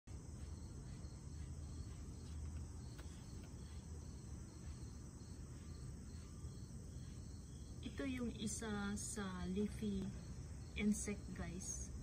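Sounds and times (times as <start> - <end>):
continuous high buzz: 0.1 - 12.0
insects chirping: 0.1 - 12.0.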